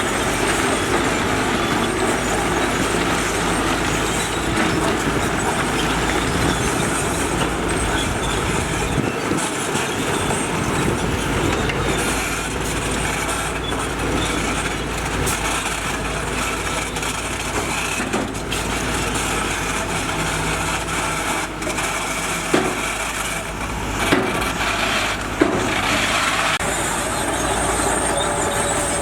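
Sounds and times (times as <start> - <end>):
diesel construction machinery running: 0.0 - 29.0.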